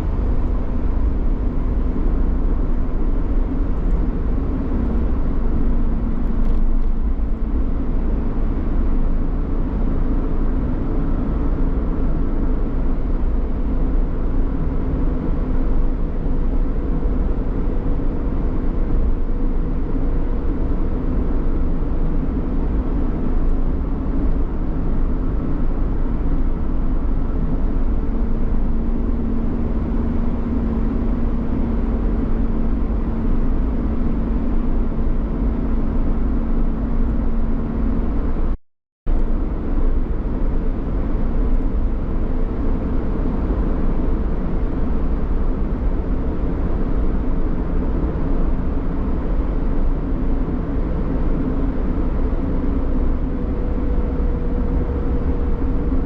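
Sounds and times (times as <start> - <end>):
vehicle road and engine noise: 0.0 - 56.0.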